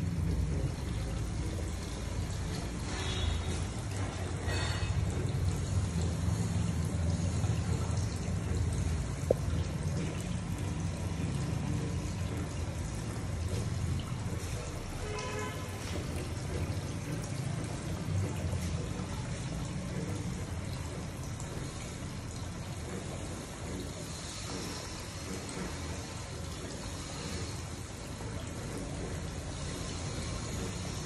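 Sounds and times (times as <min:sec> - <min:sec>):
fountain water splashing: 0:00.0 - 0:31.0.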